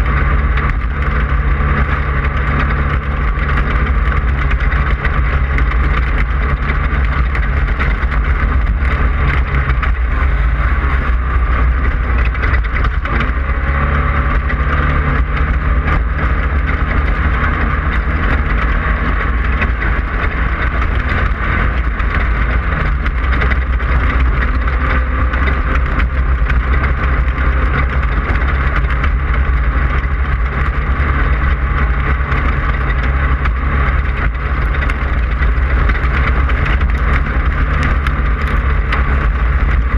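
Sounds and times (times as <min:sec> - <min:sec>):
engine running hard: 0:00.0 - 0:39.9
heavy rumble from rough ground: 0:00.0 - 0:39.9.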